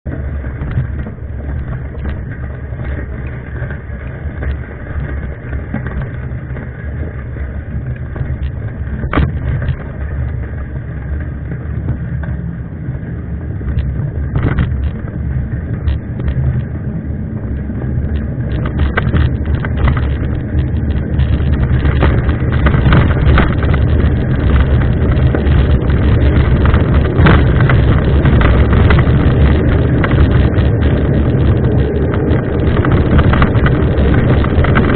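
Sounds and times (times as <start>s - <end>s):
bike rattling and knocking: 0.0s - 34.9s
wind on microphone: 0.0s - 34.9s.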